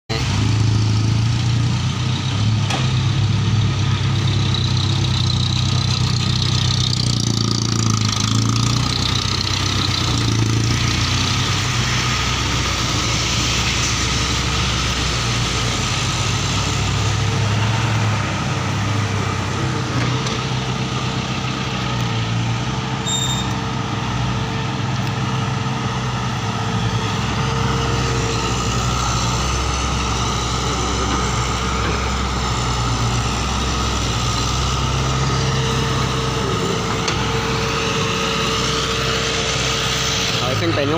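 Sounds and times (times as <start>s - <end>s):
excavator diesel engine running: 0.1s - 40.9s.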